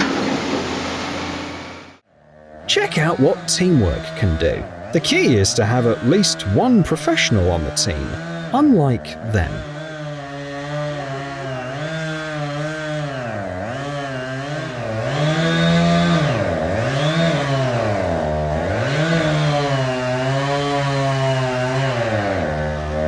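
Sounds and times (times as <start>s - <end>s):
chainsaw cutting wood: 0.0s - 8.8s, 9.4s - 23.0s.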